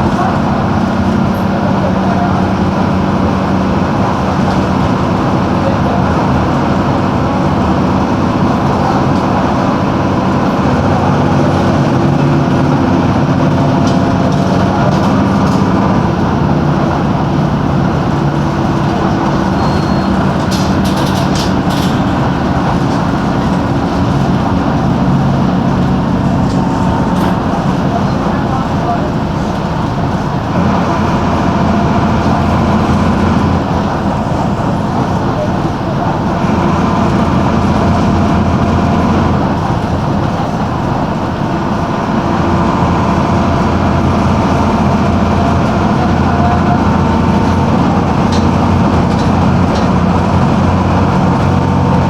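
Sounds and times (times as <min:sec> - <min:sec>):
diesel bus engine droning: 0:00.0 - 0:52.0.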